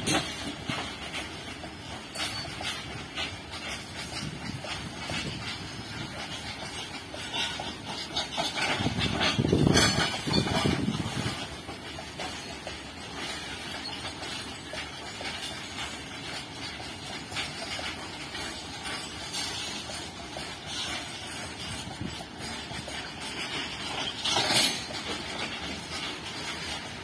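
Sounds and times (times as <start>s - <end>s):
clicks at rail joints: 0.0s - 27.0s
freight wagons rolling on rails: 0.0s - 27.0s
loud clatter: 0.0s - 27.0s.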